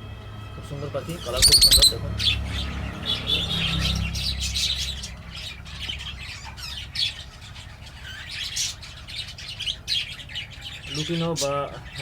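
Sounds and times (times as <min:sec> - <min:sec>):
lovebirds chirping and squawking: 0:00.7 - 0:12.0.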